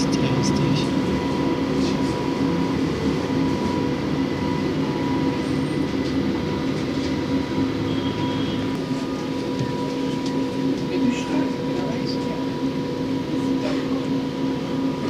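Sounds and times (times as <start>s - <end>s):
electrical hum: 0.0s - 15.0s
tram car running noise: 0.0s - 15.0s.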